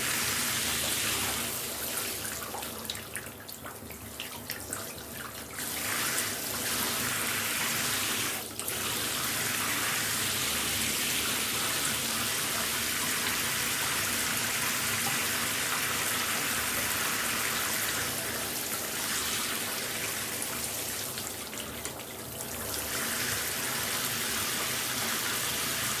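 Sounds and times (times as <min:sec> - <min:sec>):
shower running: 0:00.0 - 0:26.0.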